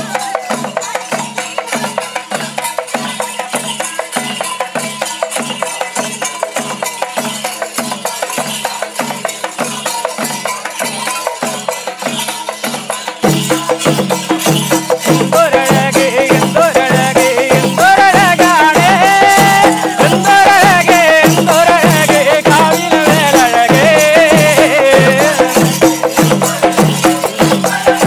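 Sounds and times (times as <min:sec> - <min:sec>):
folk music with drums and percussion: 0:00.0 - 0:28.0.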